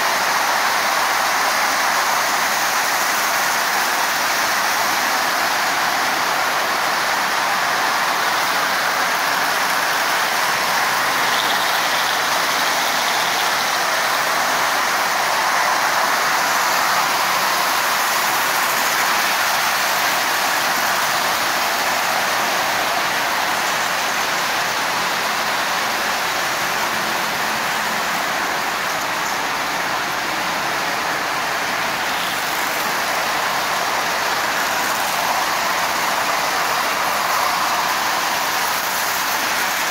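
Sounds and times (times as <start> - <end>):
toy trains running on metal track: 0.0 - 39.9.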